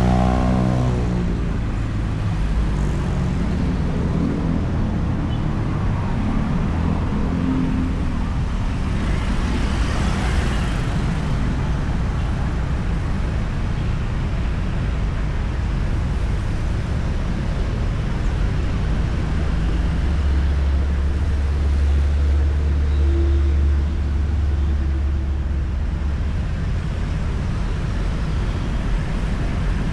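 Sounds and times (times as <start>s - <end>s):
passing vehicles: 0.0s - 29.9s.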